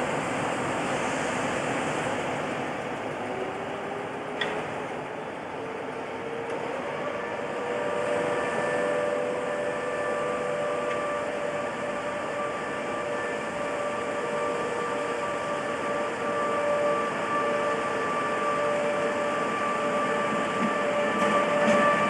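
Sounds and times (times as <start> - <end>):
electric locomotive humming: 0.0 - 22.0
train running noise: 0.0 - 22.0.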